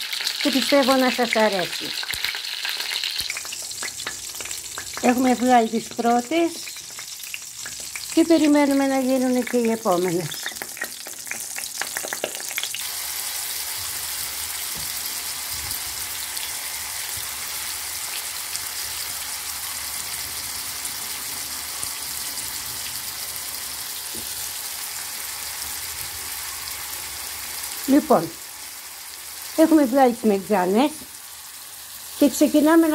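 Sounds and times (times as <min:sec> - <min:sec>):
onions sizzling in oil: 0:00.0 - 0:32.9.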